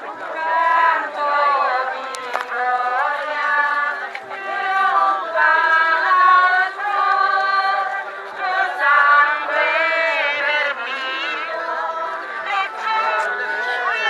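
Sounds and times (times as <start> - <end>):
crowd singing a hymn: 0.0 - 14.0.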